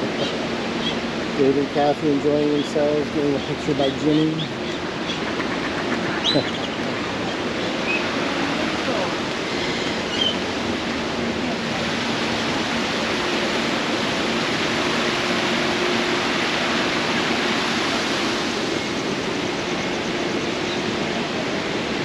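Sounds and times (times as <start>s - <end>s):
rushing falling water: 0.0s - 22.0s.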